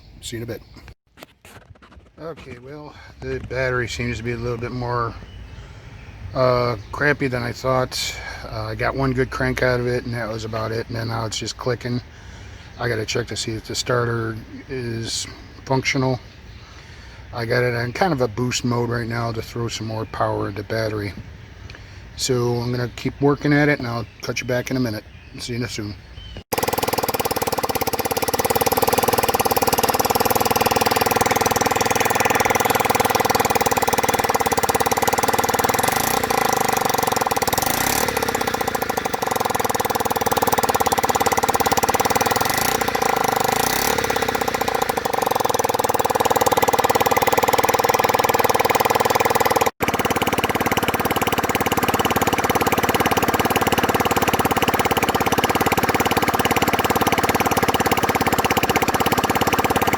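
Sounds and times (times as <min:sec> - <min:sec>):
scooter engine idling: 0:02.2 - 0:59.9.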